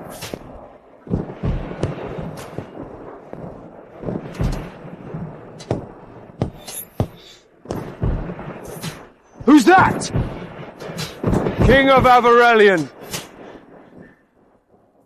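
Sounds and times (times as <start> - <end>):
heavy booms and thuds: 0.0 - 14.1.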